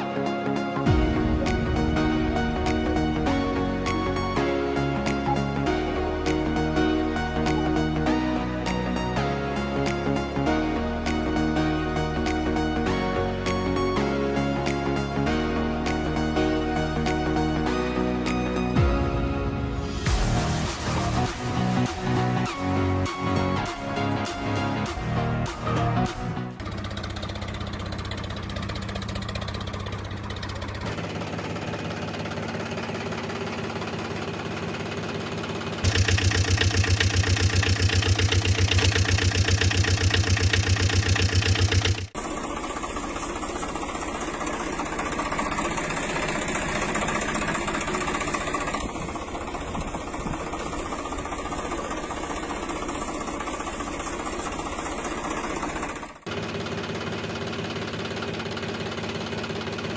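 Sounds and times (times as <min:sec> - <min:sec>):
tractor engine chugging: 0:00.8 - 0:08.9, 0:20.0 - 0:59.9.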